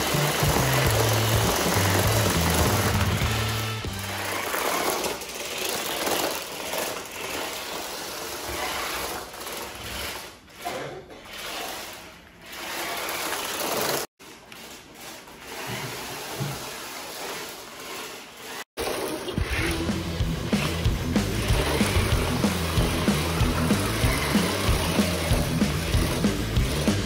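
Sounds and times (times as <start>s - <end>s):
toy car motors and gears whirring: 0.0s - 27.0s.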